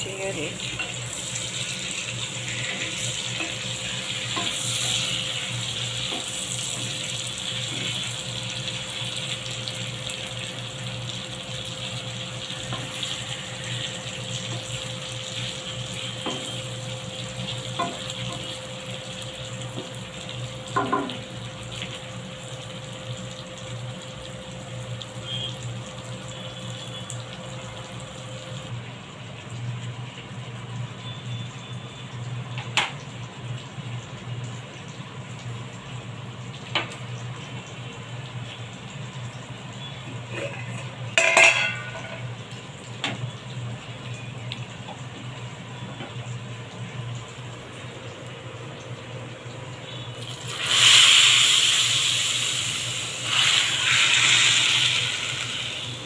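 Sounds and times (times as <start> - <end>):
vegetables sizzling in hot oil: 0.0 - 28.8, 34.7 - 48.2, 49.5 - 56.0.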